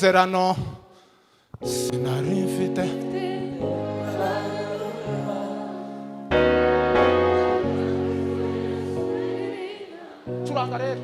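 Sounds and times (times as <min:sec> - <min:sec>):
gospel singing: 0:01.6 - 0:11.0
sustained keyboard chords: 0:01.6 - 0:11.0.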